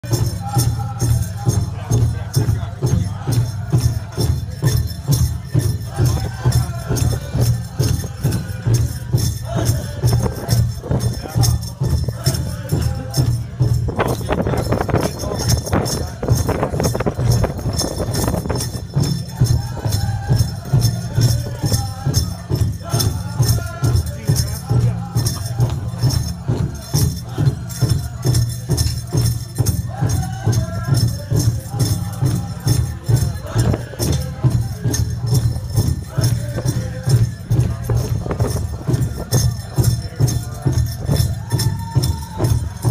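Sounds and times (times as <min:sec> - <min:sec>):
big drum steady beat: 0:00.0 - 0:42.9
people singing: 0:00.0 - 0:42.9.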